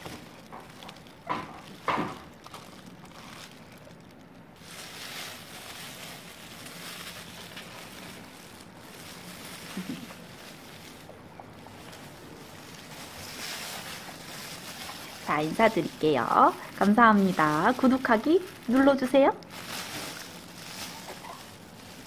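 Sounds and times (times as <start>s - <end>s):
plastic gloves rustling on fur: 0.0s - 22.0s.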